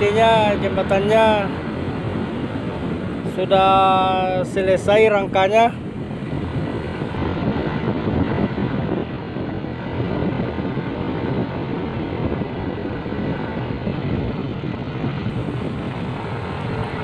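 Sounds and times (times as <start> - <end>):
road noise rushing: 0.0 - 17.0.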